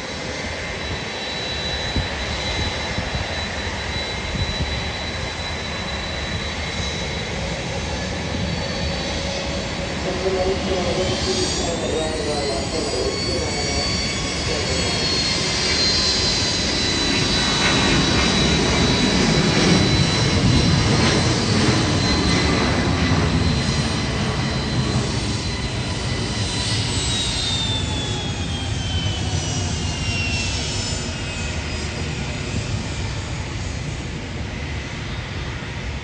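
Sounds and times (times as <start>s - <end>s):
jet engines at takeoff: 0.0s - 36.0s.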